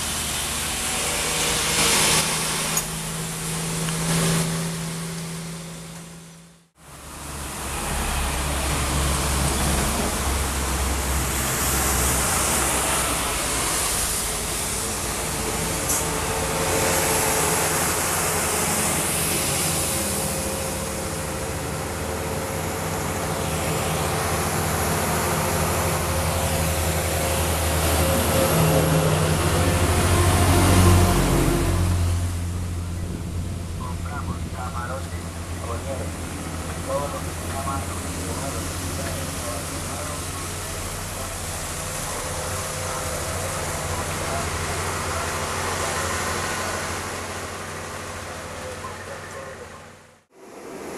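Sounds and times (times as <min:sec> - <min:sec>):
truck diesel engine running: 0:00.0 - 0:50.3
tyre noise on wet road: 0:00.0 - 0:50.9.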